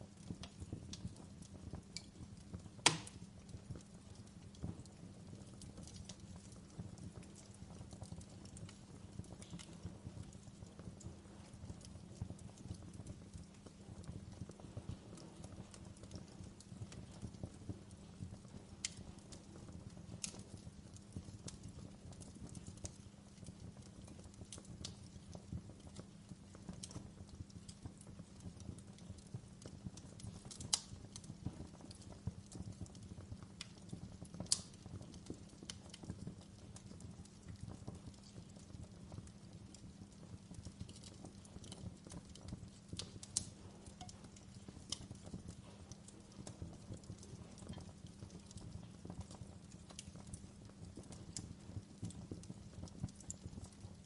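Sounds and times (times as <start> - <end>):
fire crackling and popping: 0.0 - 54.0
fire flames rushing: 0.0 - 54.0.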